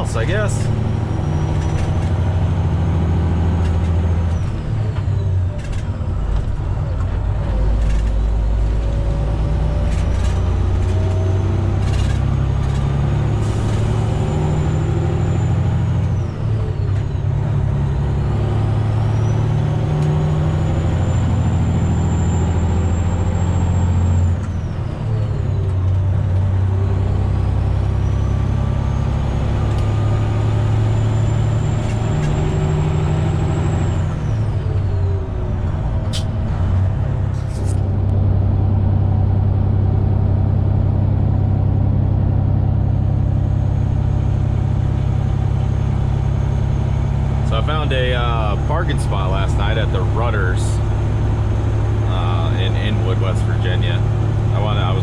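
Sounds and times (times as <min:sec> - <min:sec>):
truck diesel engine accelerating: 0:00.0 - 0:55.0.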